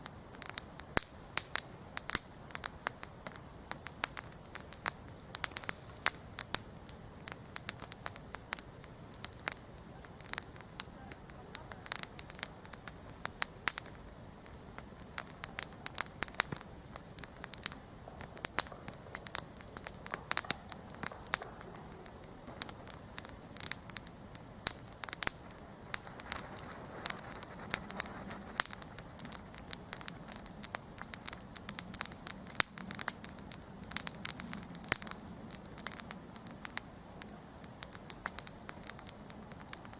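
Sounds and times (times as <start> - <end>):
crackling wood pops: 0.0 - 39.9
hiss of flames: 0.0 - 39.9.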